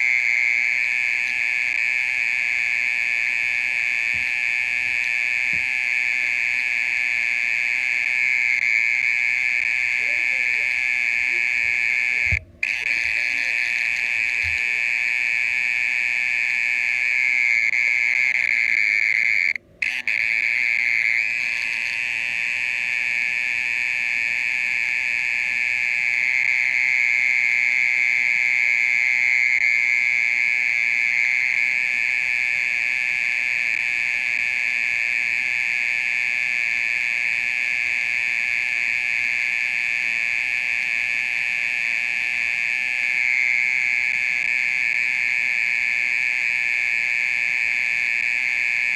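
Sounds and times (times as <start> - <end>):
mole cricket buzzing trill: 0.0 - 48.9.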